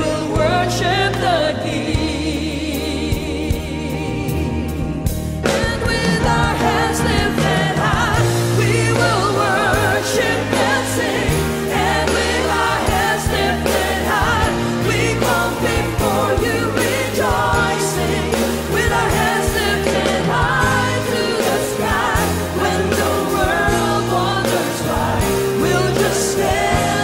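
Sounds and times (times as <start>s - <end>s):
backing singers: 0.0s - 27.0s
woman singing lead: 0.0s - 27.0s
worship band playing: 0.0s - 27.0s.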